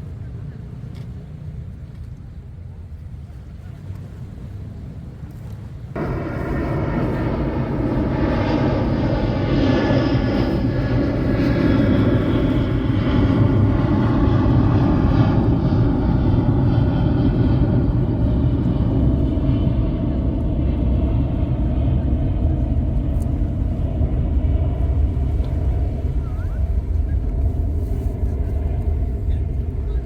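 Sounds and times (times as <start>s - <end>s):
engine drone with whine: 0.0s - 30.0s.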